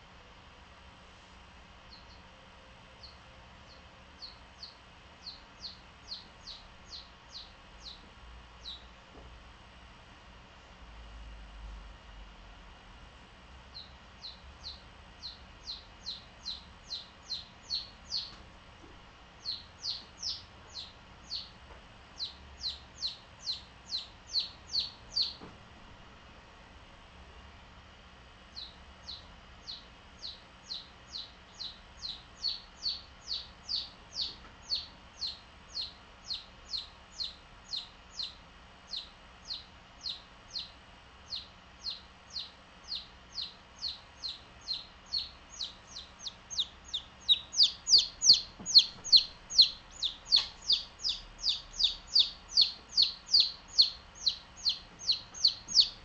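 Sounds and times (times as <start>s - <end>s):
chick peeping: 1.9s - 2.3s, 3.0s - 8.9s, 13.7s - 25.6s, 28.5s - 56.0s.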